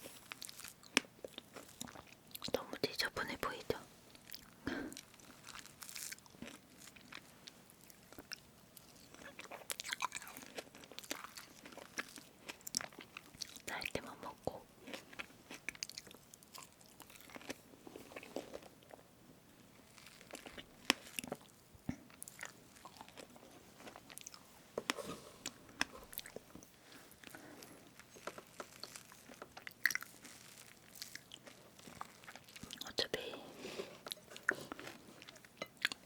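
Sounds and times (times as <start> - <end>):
soft chewing with mouth clicks: 0.0 - 36.0.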